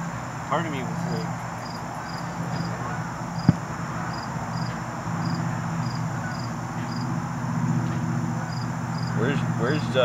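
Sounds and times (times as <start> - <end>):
insect chirping: 0.0 - 10.0
steady low hum: 0.0 - 10.0.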